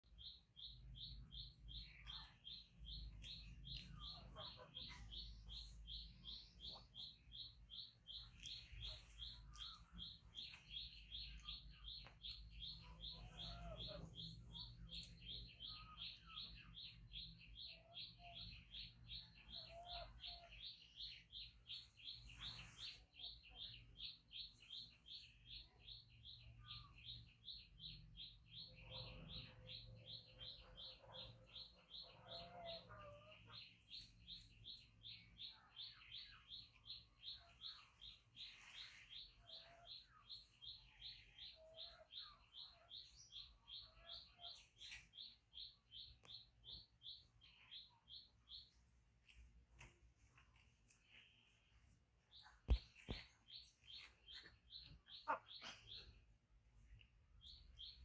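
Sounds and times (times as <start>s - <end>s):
faint high-pitched chirping: 0.0s - 58.0s.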